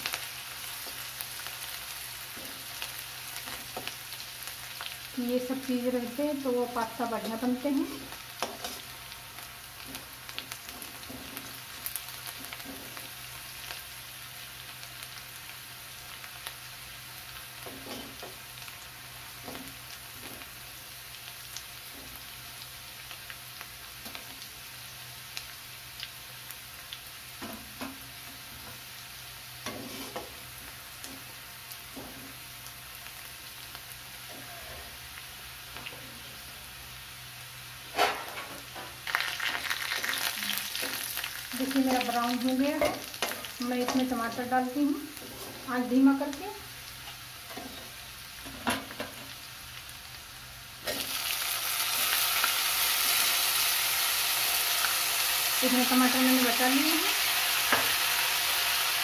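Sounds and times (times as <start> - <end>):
vegetables sizzling in hot oil: 0.0 - 59.0.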